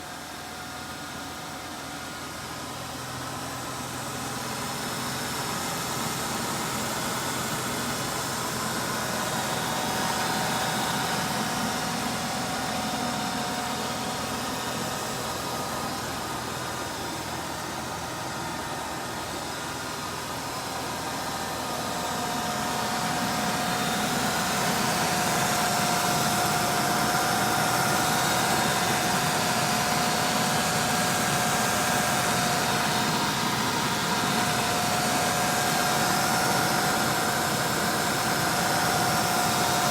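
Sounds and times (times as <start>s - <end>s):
supercharger whine: 0.0s - 39.9s.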